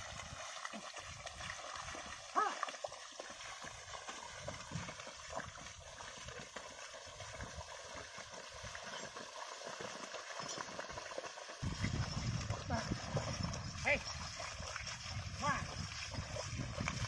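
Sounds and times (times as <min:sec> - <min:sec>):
hooves squelching in mud: 0:00.0 - 0:17.0
water sloshing: 0:00.0 - 0:17.0.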